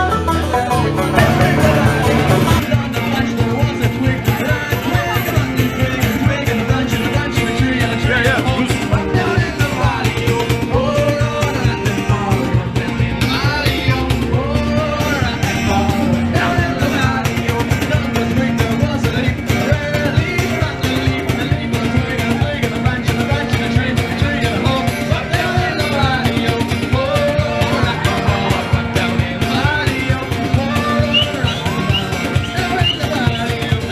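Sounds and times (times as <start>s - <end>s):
rock music with guitar: 0.0s - 33.9s.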